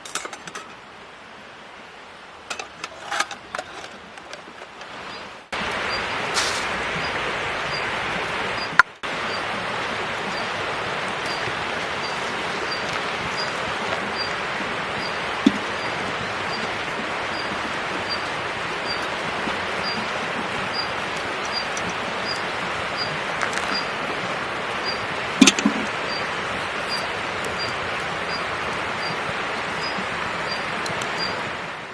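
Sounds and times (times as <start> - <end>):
river water flowing: 0.0 - 31.9.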